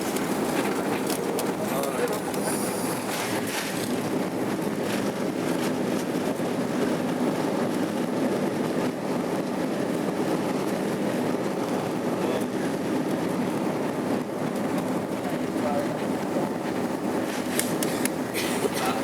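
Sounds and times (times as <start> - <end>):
airliner cabin engine hum: 0.0 - 19.0.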